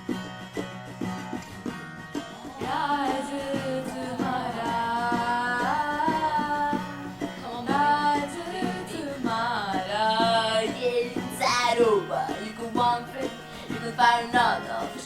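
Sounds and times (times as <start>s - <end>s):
plucked guitar: 0.0s - 15.0s
woman singing: 2.4s - 15.0s.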